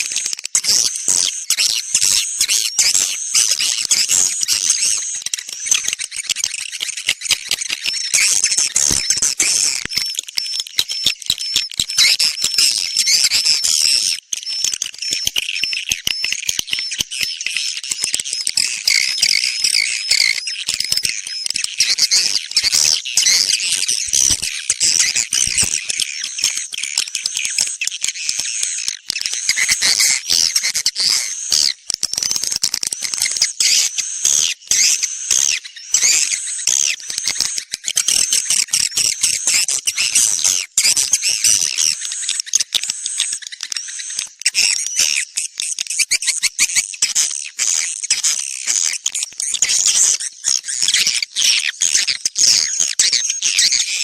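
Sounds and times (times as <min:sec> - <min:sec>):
swiftlet chirps and twitters: 0:01.3 - 0:48.2.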